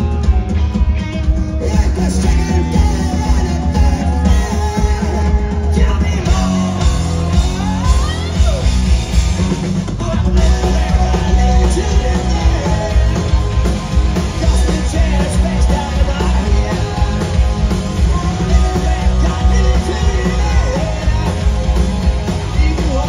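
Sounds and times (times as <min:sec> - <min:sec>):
live rock band: 0:00.0 - 0:23.0
man singing: 0:01.5 - 0:08.8, 0:09.9 - 0:23.0.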